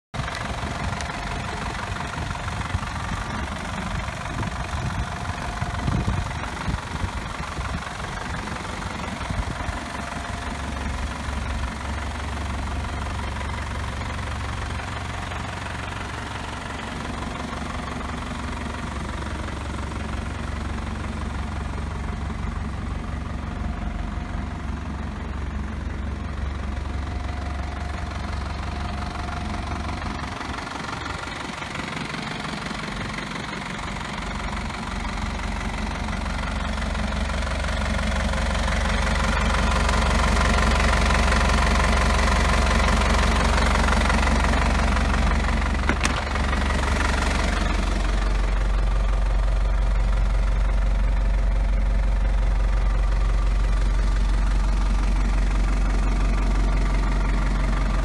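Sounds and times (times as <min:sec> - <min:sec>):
truck engine idling: 0:00.1 - 0:58.0.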